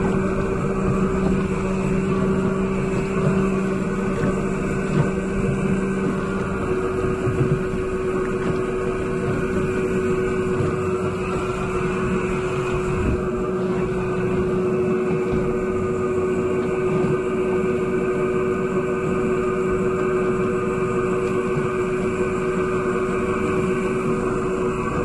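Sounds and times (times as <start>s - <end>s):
outboard motors droning: 0.0s - 25.0s.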